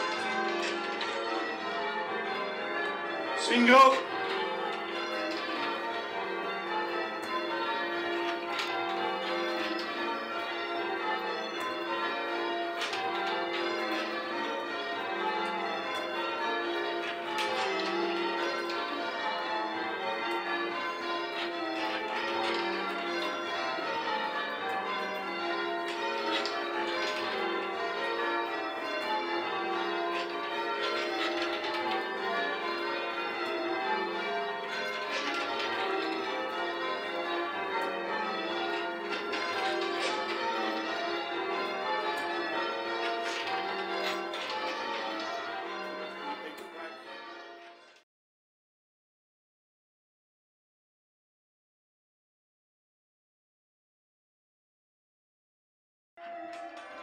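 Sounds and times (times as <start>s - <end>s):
church bells change ringing: 0.0s - 48.0s, 56.2s - 57.0s.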